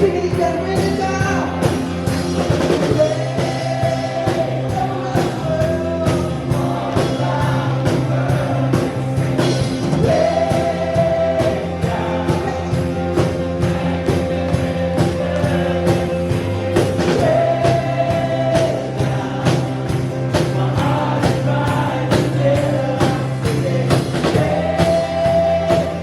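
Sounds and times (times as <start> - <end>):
steady drum beat: 0.0 - 26.0
worship band playing: 0.0 - 26.0
group singing long notes: 1.6 - 26.0.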